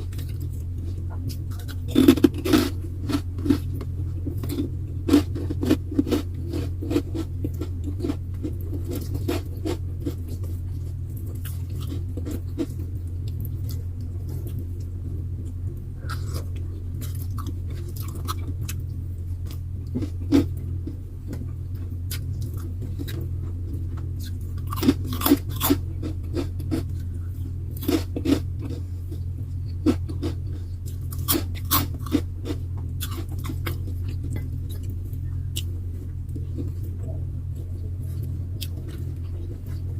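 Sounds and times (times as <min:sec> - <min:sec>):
chewing and crunching food: 0:00.0 - 0:39.9
steady low hum: 0:00.0 - 0:39.9.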